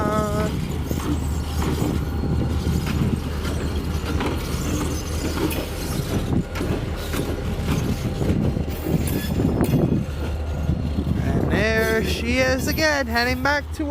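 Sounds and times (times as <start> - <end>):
vehicle engine rumble: 0.0 - 13.9.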